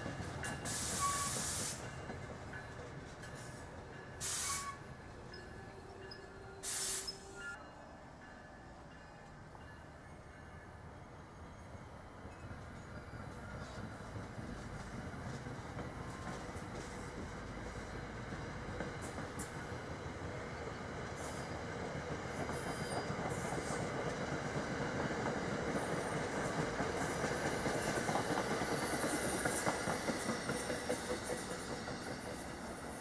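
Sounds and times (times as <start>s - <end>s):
train wheels rumbling on rails: 0.0s - 7.5s, 12.2s - 33.0s.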